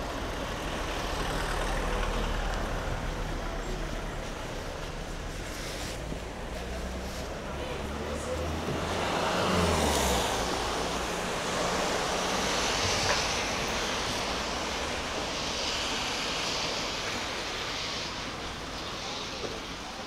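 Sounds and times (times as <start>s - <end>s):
vehicle passing on wet road: 0.0s - 19.9s
traffic noise: 0.0s - 20.0s.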